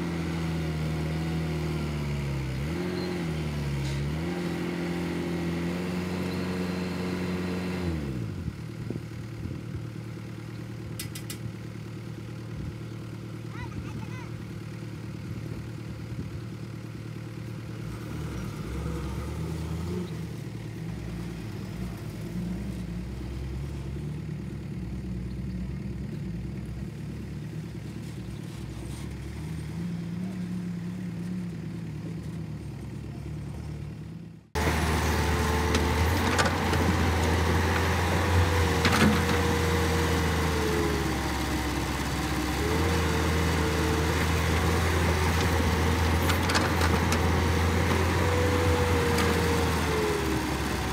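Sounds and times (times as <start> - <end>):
excavator diesel engine drone: 0.0 - 50.9.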